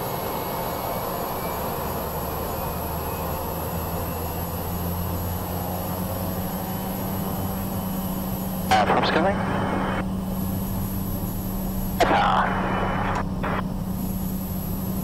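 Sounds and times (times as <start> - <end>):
turboprop engine drone: 0.0 - 15.0.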